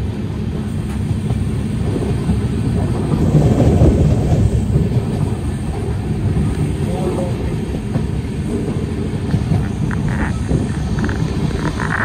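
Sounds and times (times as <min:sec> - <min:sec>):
train rumbling from on board: 0:00.0 - 0:12.0.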